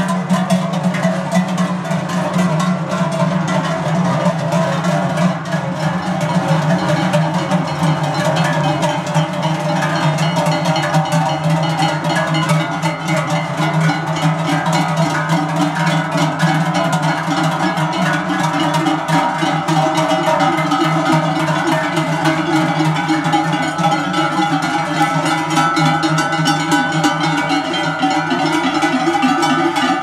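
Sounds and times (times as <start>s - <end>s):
cowbells clanging: 0.0s - 30.0s.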